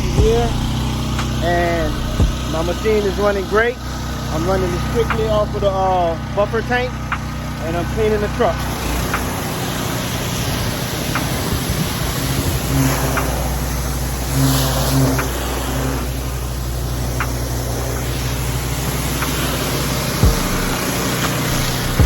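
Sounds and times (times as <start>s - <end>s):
spray hissing: 0.0s - 5.5s, 7.9s - 22.0s
pressure washer engine running: 0.0s - 22.0s.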